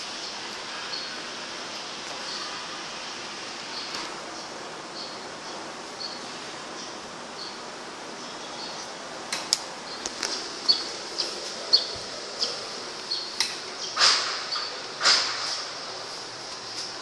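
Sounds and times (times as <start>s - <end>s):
exhaust fan hissing: 0.0s - 17.0s.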